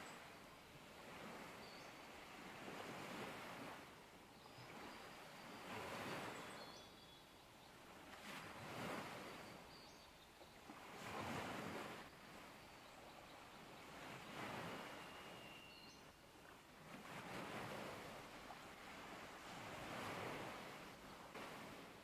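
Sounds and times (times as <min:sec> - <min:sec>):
faint ocean surf: 0:00.0 - 0:22.0.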